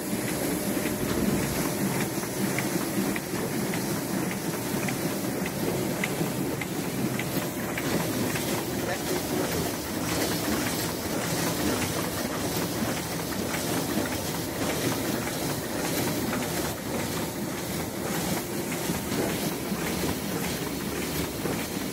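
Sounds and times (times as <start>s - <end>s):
printing machine running: 0.0s - 21.9s.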